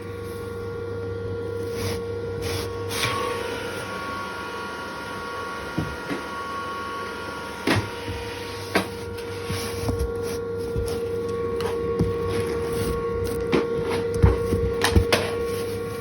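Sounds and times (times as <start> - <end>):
cooling fans whirring: 0.0 - 16.0.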